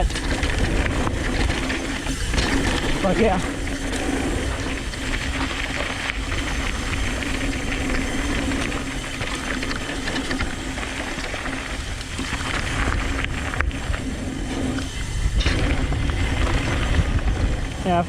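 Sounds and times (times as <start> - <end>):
bike chain and frame rattling: 0.0 - 18.0
bike tyres on dirt: 0.0 - 18.0
wind rumbling on microphone: 0.0 - 18.0.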